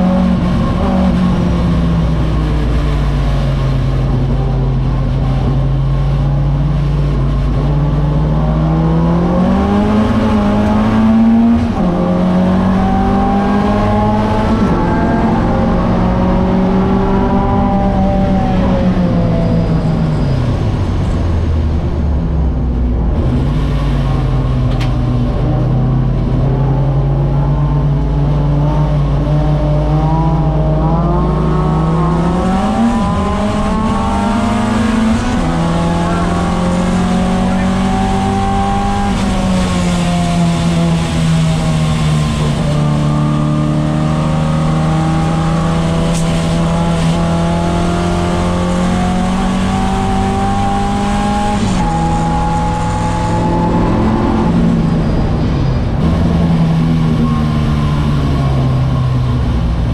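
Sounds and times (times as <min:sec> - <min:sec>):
car engine revving through gears: 0:00.0 - 0:59.9.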